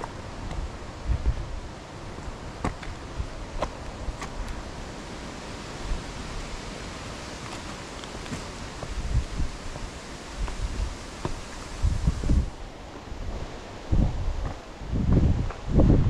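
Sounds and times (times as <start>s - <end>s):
mountain stream rushing: 0.0s - 15.9s.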